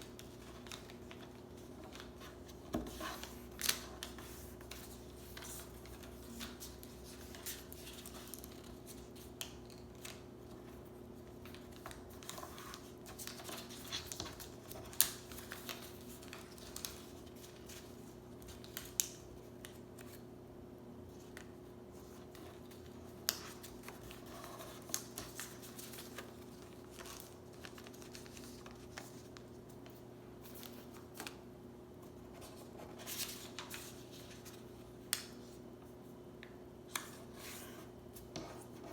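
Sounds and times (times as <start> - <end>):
paper being folded: 0.0 - 20.2, 21.2 - 31.4, 32.0 - 35.6
faint steady hum: 0.0 - 38.9.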